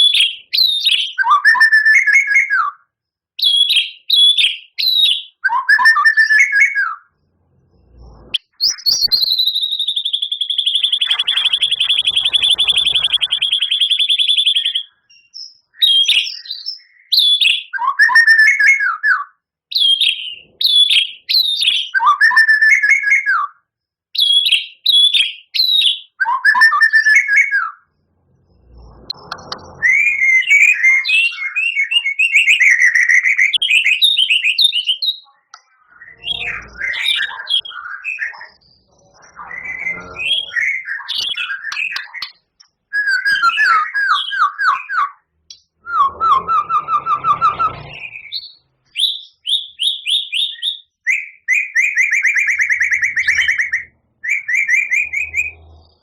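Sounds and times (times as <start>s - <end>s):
bird singing whistled phrases: 0.0s - 7.1s, 8.4s - 23.6s, 24.2s - 27.9s, 28.7s - 56.0s.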